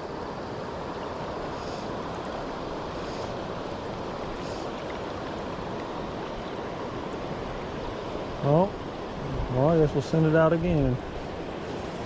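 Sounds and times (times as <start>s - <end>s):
river current rushing: 0.0s - 12.0s.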